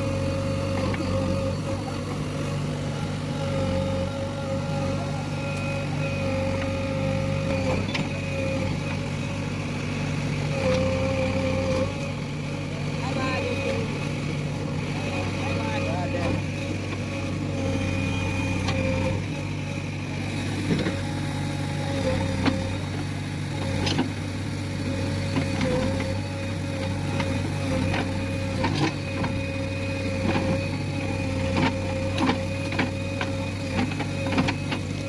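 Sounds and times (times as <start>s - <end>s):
diesel engine running: 0.0s - 35.0s
hydraulic whine: 0.0s - 35.0s.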